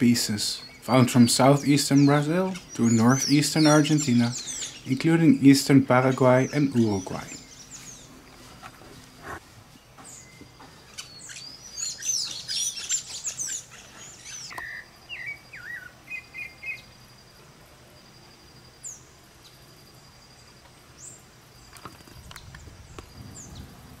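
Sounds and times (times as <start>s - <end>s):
birds chirping: 0.0s - 17.4s, 18.3s - 24.0s.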